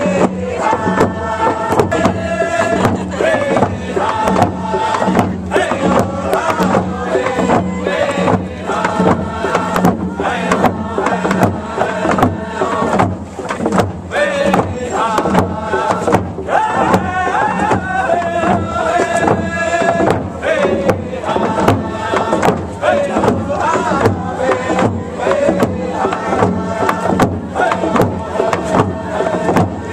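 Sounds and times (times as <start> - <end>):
men singing in a group: 0.0 - 29.9
steady drum beat: 0.0 - 29.9.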